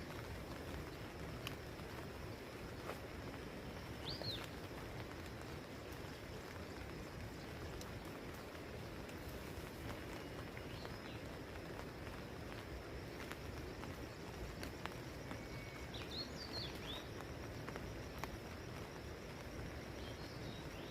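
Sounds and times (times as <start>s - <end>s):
water drips: 0.0s - 20.8s
rain pattering: 0.0s - 20.9s.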